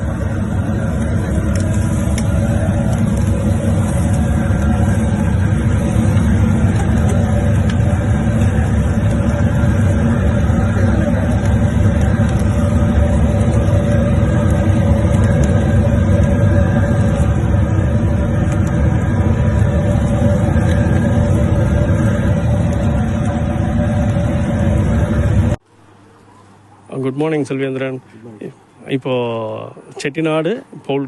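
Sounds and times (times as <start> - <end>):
vehicle engine droning: 0.0 - 25.7.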